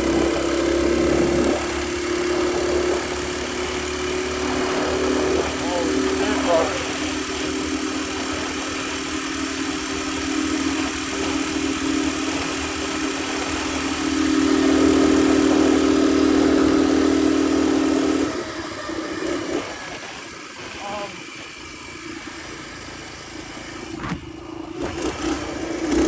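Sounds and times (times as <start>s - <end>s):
mini bike engine running: 0.0s - 26.0s.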